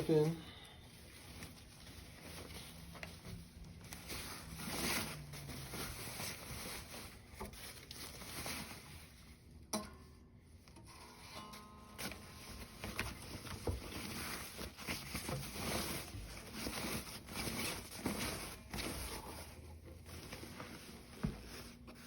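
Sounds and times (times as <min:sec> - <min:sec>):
cardboard and packing rustling: 0:00.0 - 0:09.6, 0:12.0 - 0:22.0.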